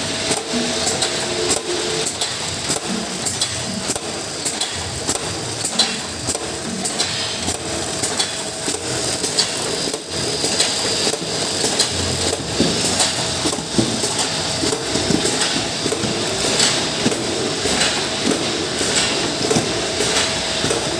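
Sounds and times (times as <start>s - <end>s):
packing machine running: 0.0s - 20.9s.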